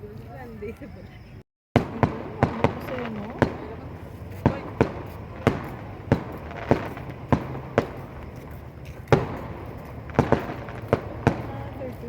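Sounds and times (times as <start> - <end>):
fireworks bangs: 1.8 - 12.0.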